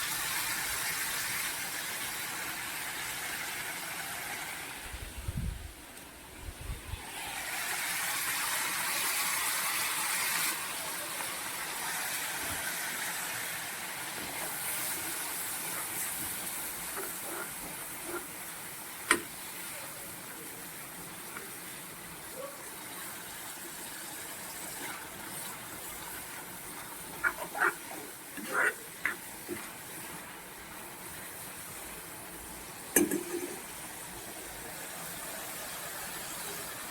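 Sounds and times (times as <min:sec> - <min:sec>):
spices sizzling in hot oil: 0:00.0 - 0:04.9, 0:07.0 - 0:36.9.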